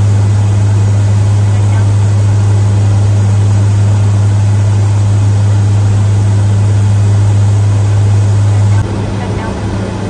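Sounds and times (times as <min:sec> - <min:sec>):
aircraft engines humming: 0:00.0 - 0:10.0
constant rushing noise: 0:00.0 - 0:10.0.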